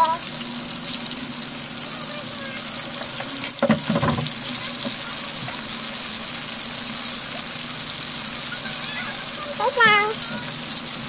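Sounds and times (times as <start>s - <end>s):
fish deep-frying in hot oil: 0.0s - 11.0s.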